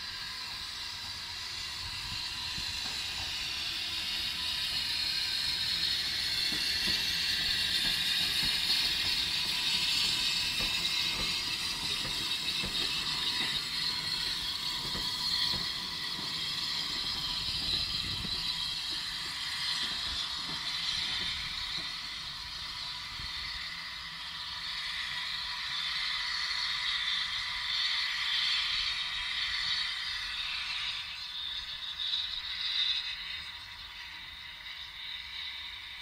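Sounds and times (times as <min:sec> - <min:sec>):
railway wagons rattling and clanking: 0:00.0 - 0:36.0
wheels hissing and whining on rails: 0:00.0 - 0:36.0.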